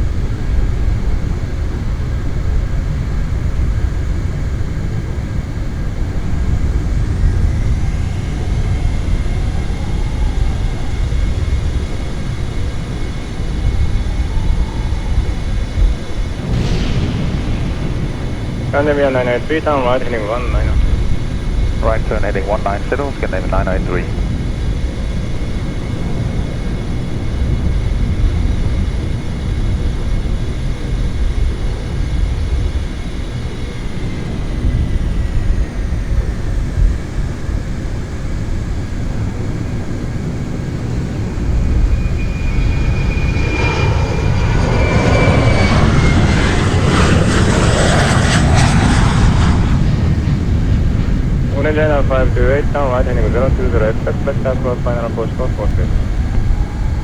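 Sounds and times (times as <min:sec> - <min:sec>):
jet engine high whine: 0:00.0 - 0:57.0
jet engines rumbling: 0:00.0 - 0:57.0.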